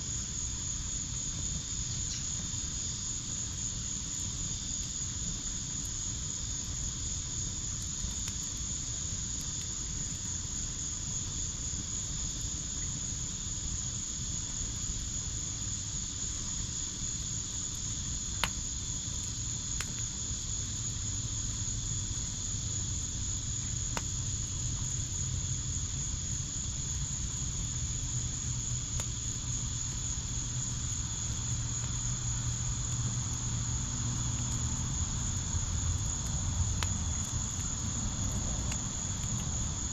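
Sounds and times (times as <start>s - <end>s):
burning wood crackles: 0.0s - 39.9s
crickets trilling: 0.0s - 39.9s
wood fire hiss: 0.0s - 39.9s.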